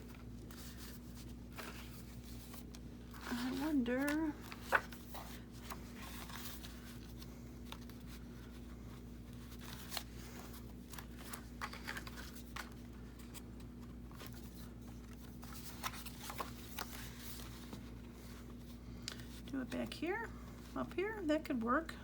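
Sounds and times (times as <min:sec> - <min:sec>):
paper rustling: 0:00.0 - 0:19.8
faint steady hum: 0:00.0 - 0:22.0.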